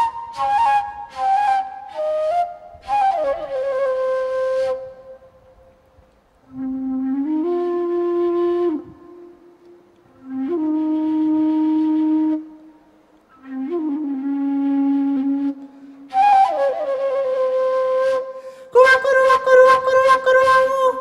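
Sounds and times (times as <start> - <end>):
slow flute music: 0.0 - 21.0.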